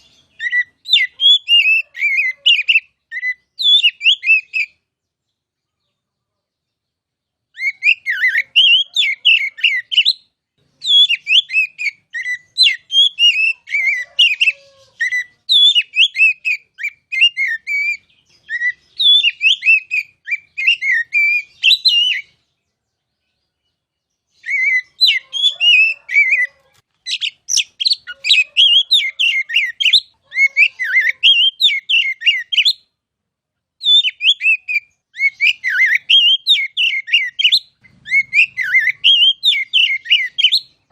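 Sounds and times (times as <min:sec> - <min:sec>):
bird singing whistled notes: 0:00.0 - 0:05.9, 0:06.7 - 0:32.9, 0:33.8 - 0:40.9.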